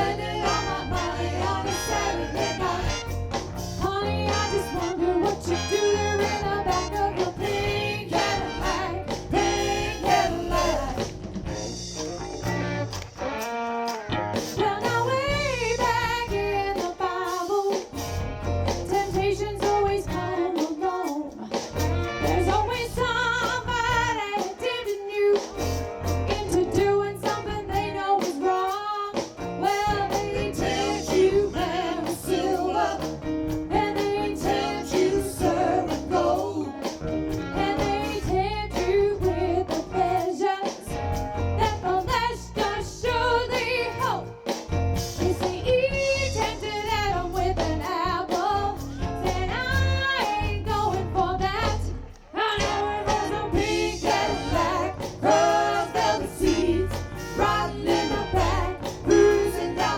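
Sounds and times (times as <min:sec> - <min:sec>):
woman singing lead: 0:00.0 - 0:11.3, 0:14.5 - 0:18.0, 0:18.8 - 0:44.5, 0:45.2 - 0:59.9
soul band playing: 0:00.0 - 0:59.9.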